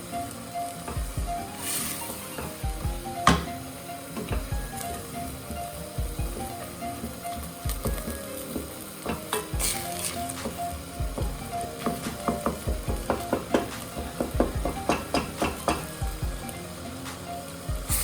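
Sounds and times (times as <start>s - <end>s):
food sizzling: 0.0s - 18.0s
utensil scraping a frying pan: 0.0s - 18.0s.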